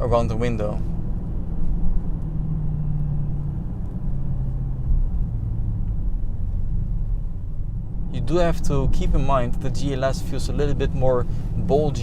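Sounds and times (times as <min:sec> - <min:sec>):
car engine droning: 0:00.0 - 0:12.0
low road rumble: 0:00.0 - 0:12.0.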